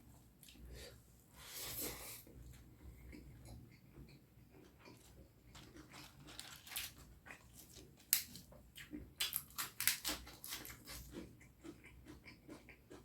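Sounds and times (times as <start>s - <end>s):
person chewing food: 0.4s - 13.0s.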